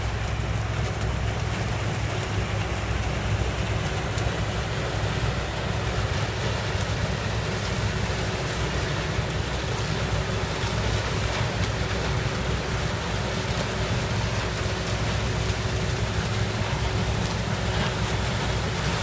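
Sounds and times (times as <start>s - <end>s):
constant rushing noise: 0.0s - 19.0s
harvester engine rumble: 0.0s - 19.0s.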